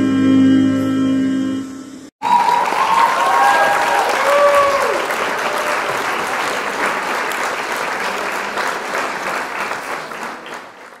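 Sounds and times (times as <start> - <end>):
audience applause: 2.2 - 11.0.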